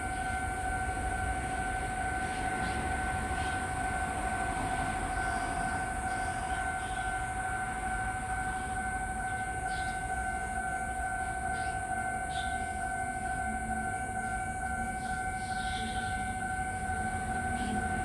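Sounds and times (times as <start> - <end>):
level crossing warning bell: 0.0 - 18.0.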